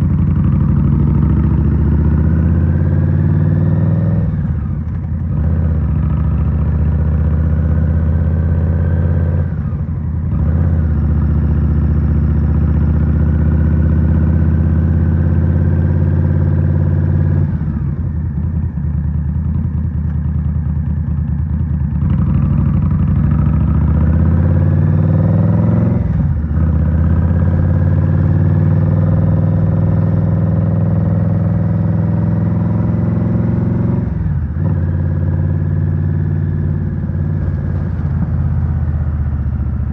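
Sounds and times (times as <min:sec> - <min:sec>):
motorcycle engine accelerating through gears: 0:00.0 - 0:39.9.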